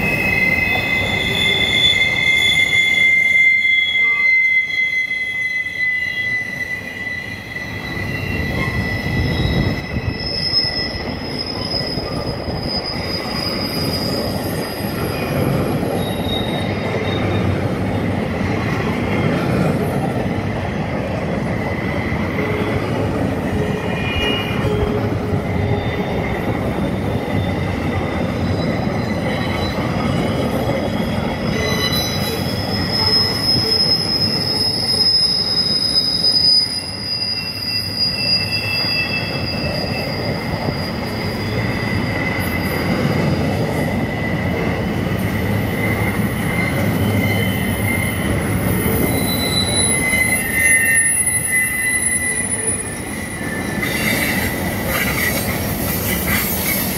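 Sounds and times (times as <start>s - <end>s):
train wheels rumbling on track: 0.0s - 56.9s
train wheels squealing on rail: 0.0s - 56.9s.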